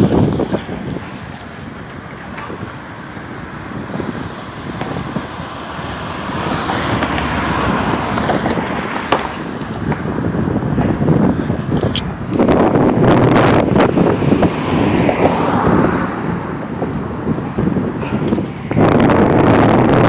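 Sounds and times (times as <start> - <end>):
vehicle passing: 0.0 - 20.0
wind buffeting microphone: 0.0 - 20.0.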